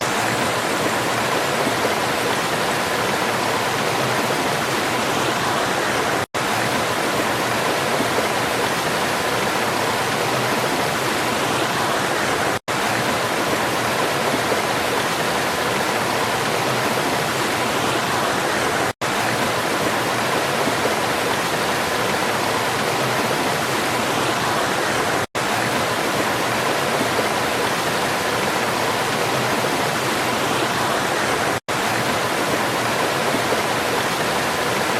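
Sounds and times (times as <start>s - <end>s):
waterfall roaring: 0.0s - 34.9s.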